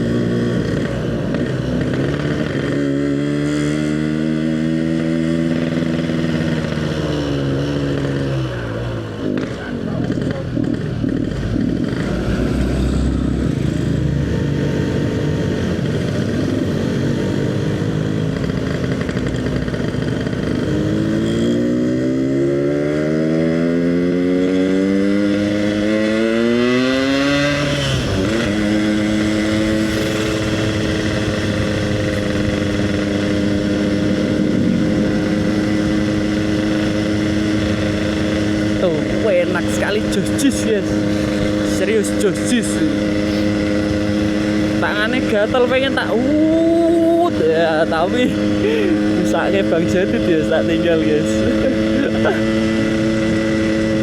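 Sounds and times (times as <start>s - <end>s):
two-stroke motorcycle engine accelerating: 0.0s - 54.0s.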